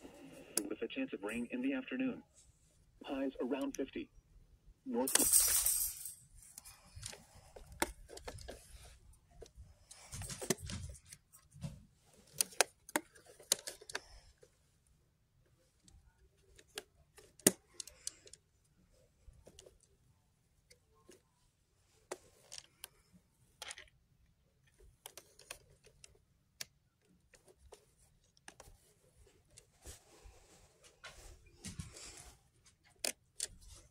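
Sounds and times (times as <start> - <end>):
hand handling portable radio: 0.0 - 1.4, 6.4 - 33.9.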